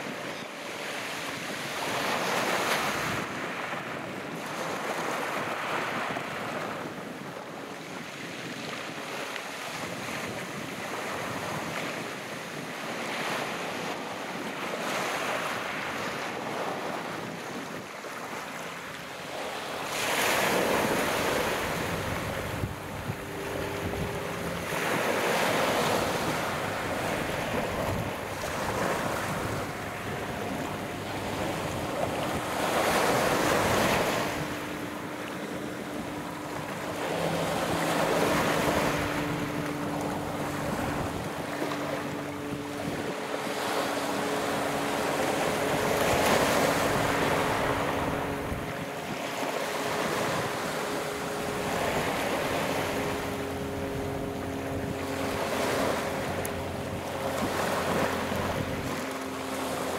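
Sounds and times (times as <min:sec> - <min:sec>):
sea waves washing ashore: 0:00.0 - 0:59.9
wind buffeting microphone: 0:00.0 - 0:59.9.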